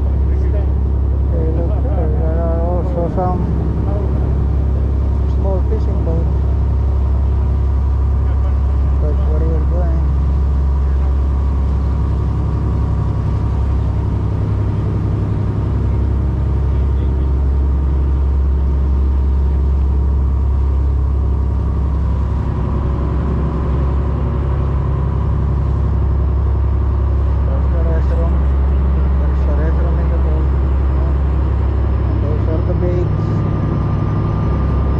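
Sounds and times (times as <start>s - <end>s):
boat engine deep drone: 0.0s - 34.9s.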